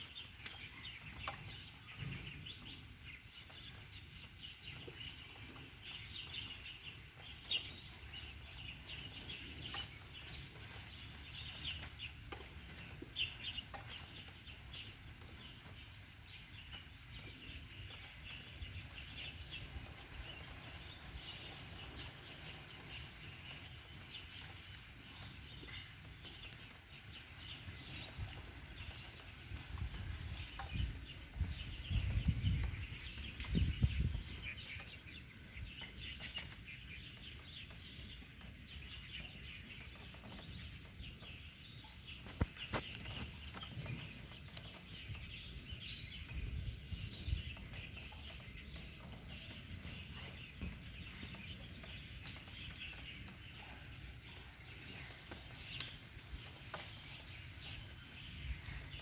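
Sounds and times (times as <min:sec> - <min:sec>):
birds calling: 0:00.0 - 0:59.0.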